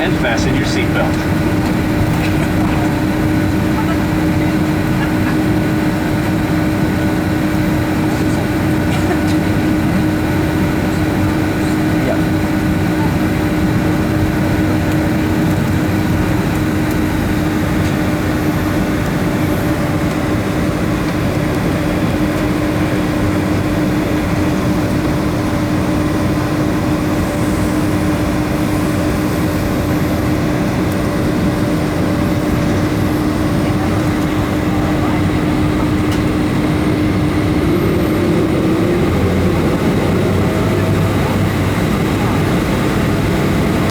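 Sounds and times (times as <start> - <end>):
jet engines in aircraft cabin: 0.0 - 43.9.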